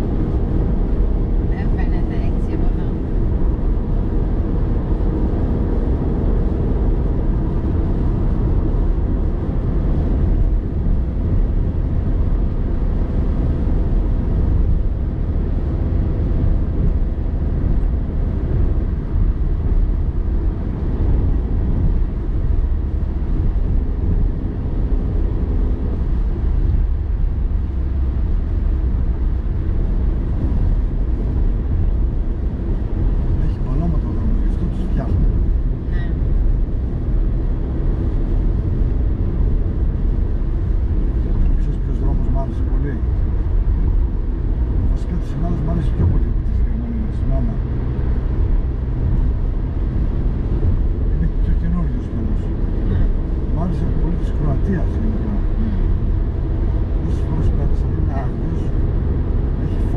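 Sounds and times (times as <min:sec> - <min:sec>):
car cabin road rumble: 0:00.0 - 0:59.9.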